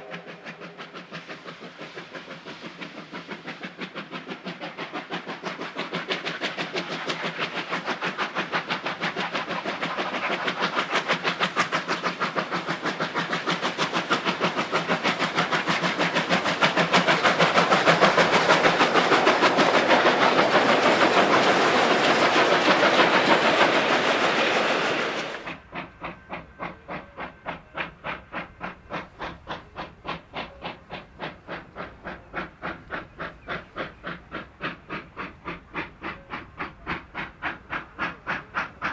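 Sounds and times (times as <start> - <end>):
steam locomotive exhaust beats: 0.0 - 38.9.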